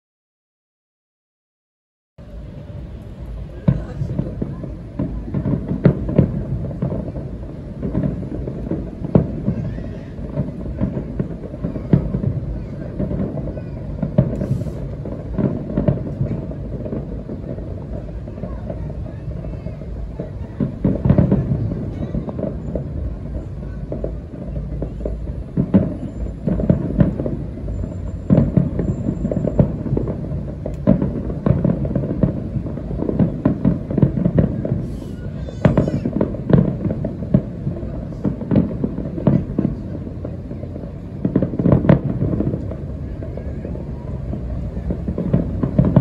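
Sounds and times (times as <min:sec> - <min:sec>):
distant fireworks booming: 0:02.2 - 0:46.0.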